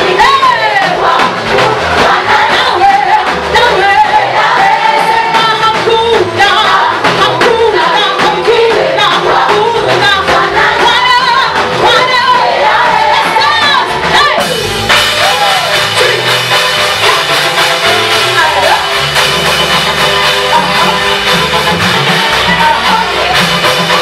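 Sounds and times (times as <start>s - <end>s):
choir singing gospel song: 0.0s - 24.0s.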